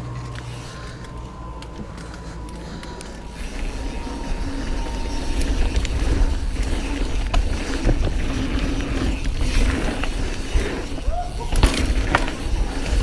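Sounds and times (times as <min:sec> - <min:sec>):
bike clicks and rattles: 0:00.0 - 0:13.0
bike tyres on dirt: 0:00.0 - 0:13.0.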